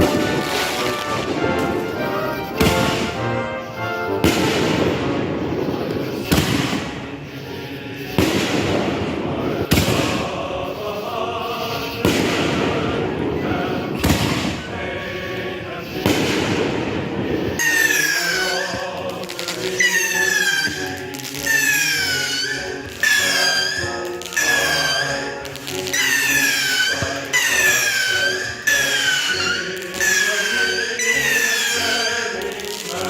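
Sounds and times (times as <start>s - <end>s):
fireworks banging: 0.0s - 10.7s, 11.8s - 33.0s.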